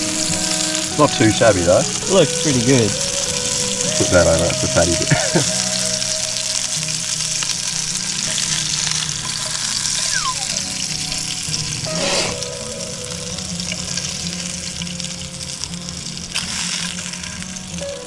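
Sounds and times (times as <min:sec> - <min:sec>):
fish frying in oil: 0:00.0 - 0:18.0.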